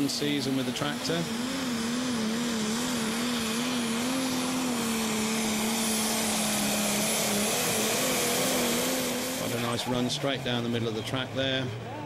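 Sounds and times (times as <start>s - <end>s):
tractor engine droning under load: 0.0s - 12.0s.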